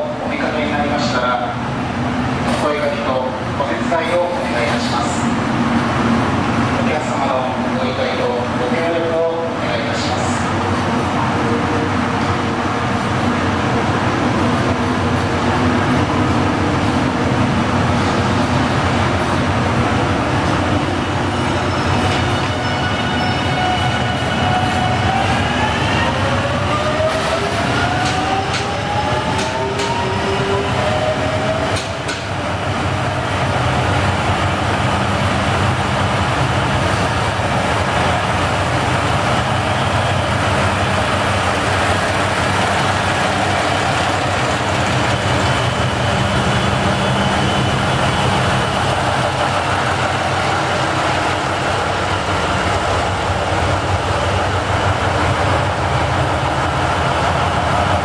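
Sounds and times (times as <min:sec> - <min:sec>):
train drive whine: 0:00.0 - 0:58.0
train running: 0:00.0 - 0:58.0.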